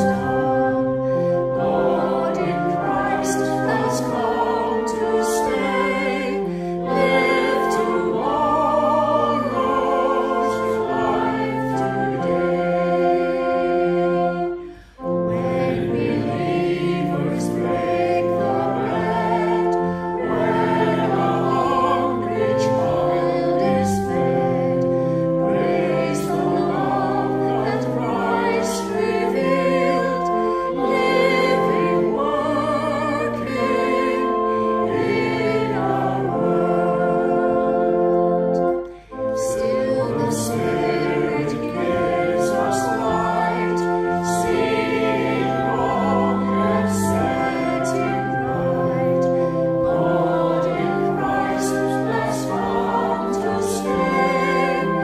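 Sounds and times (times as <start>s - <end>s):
congregation singing a hymn: 0.0s - 55.0s.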